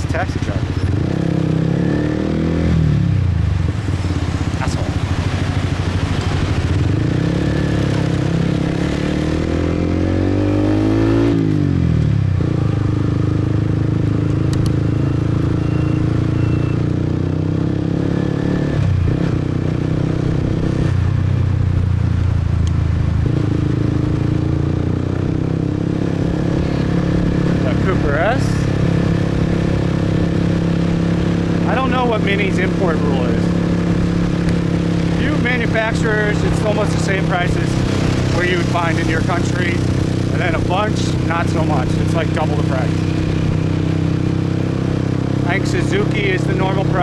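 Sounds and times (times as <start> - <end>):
motorbike engine accelerating: 0.0 - 47.0.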